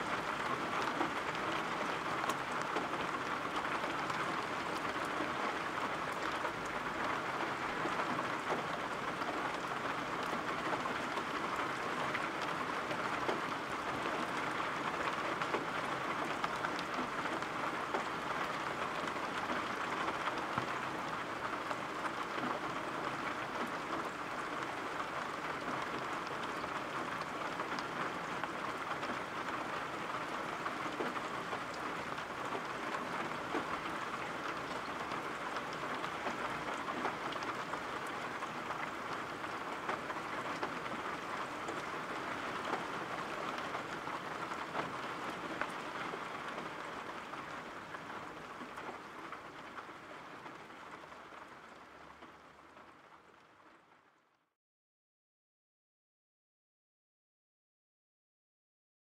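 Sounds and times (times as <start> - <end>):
steady rain hiss: 0.0 - 53.8
raindrops pattering: 0.0 - 54.4.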